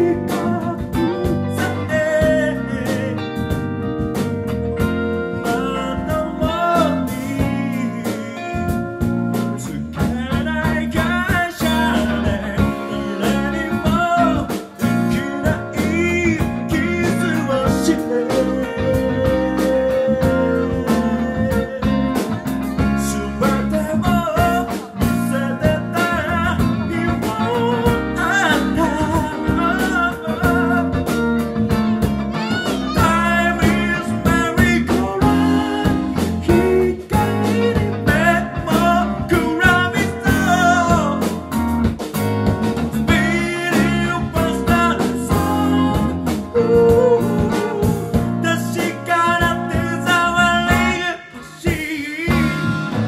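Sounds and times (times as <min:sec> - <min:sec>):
man singing into microphone: 0:00.0 - 0:03.7, 0:05.3 - 0:31.3, 0:32.4 - 0:41.6, 0:42.9 - 0:53.0
steady beat: 0:00.0 - 0:51.0
electric guitars: 0:00.0 - 0:53.0.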